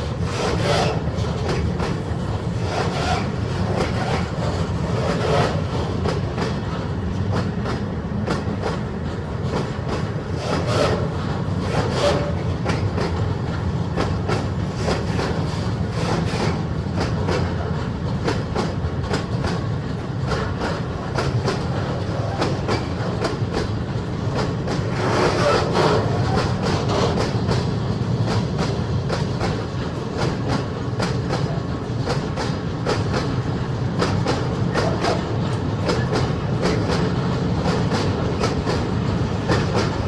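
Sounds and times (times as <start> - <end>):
train rumble: 0.0 - 40.0
train wheels clicking over rail joints: 0.0 - 40.0.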